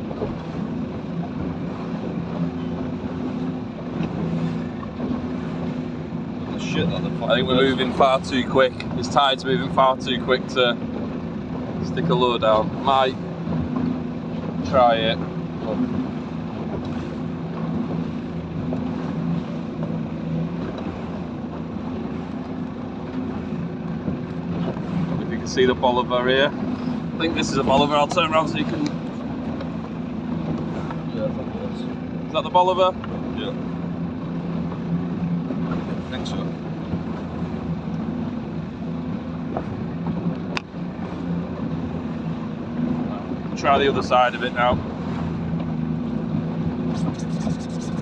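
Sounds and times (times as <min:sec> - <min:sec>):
speedboat engine humming: 0:00.0 - 0:48.0
wind and water rushing: 0:00.0 - 0:48.0.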